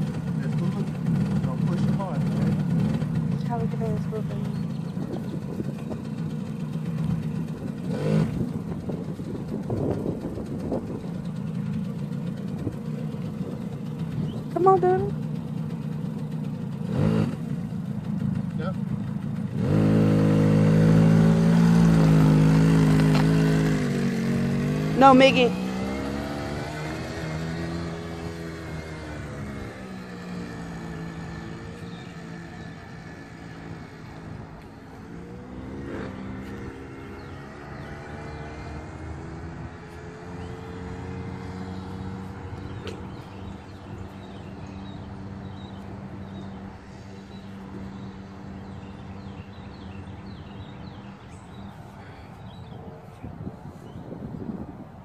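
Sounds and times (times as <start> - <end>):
small quad bike engine running: 0.0 - 54.9.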